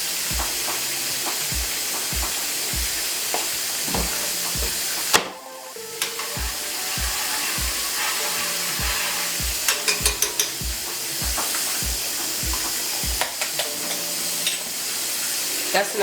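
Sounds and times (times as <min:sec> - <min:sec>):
background music with steady beat: 0:00.0 - 0:16.0
chicken sizzling in a pan: 0:00.0 - 0:16.0.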